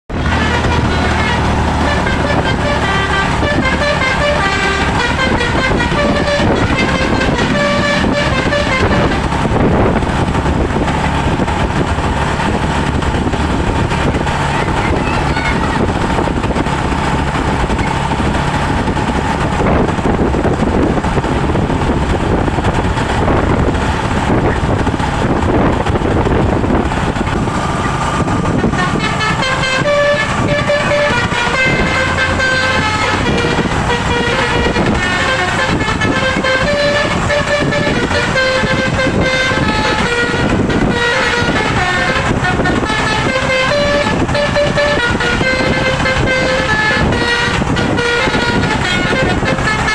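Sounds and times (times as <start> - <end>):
bus engine running: 0.0 - 49.9
street noise: 0.0 - 49.9
bus horn playing a melody: 0.1 - 49.9.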